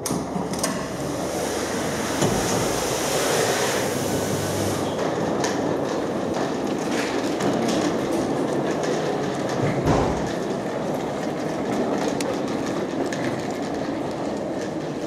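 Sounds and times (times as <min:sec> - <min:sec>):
suitcases rolling over tiled floor: 0:00.0 - 0:15.0.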